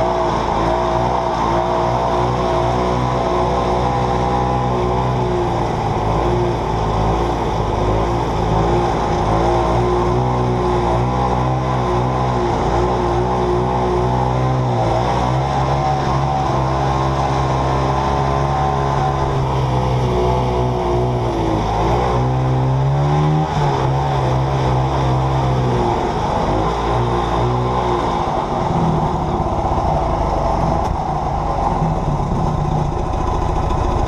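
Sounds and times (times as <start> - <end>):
snowmobile two-stroke engine running: 0.0 - 34.0.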